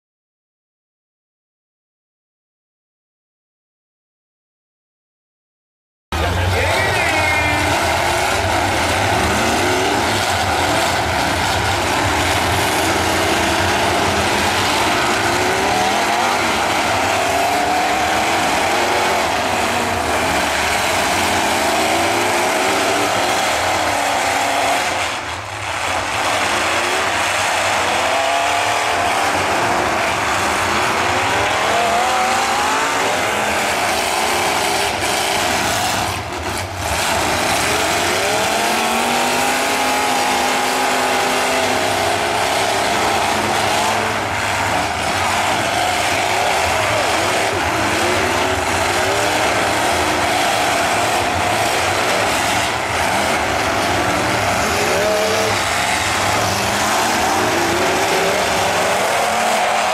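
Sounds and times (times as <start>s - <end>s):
truck engines revving: 6.1s - 59.9s.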